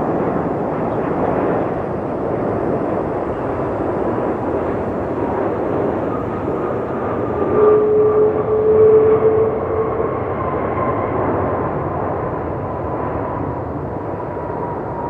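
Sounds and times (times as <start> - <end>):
jet engine rush: 0.0 - 15.0
steady engine whine: 0.0 - 15.0.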